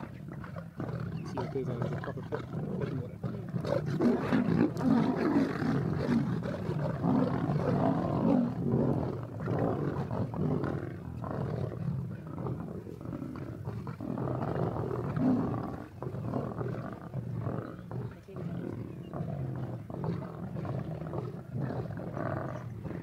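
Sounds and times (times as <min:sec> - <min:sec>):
lions growling and snarling: 0:00.0 - 0:23.0.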